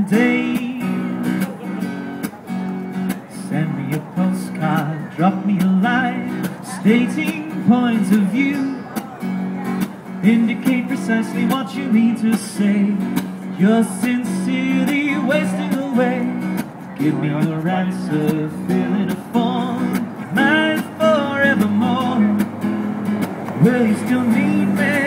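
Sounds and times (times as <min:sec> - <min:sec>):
man singing: 0:00.0 - 0:01.9, 0:03.1 - 0:22.6, 0:23.6 - 0:25.0
acoustic guitar strumming: 0:00.0 - 0:25.0.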